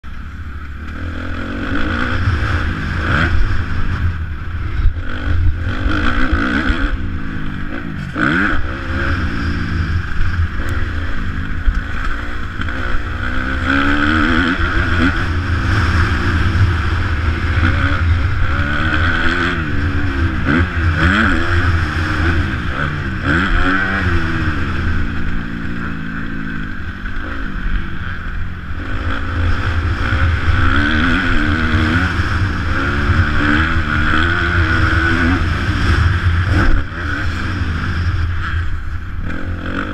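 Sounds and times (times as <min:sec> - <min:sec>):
motocross bike engine revving: 0:00.1 - 0:39.9.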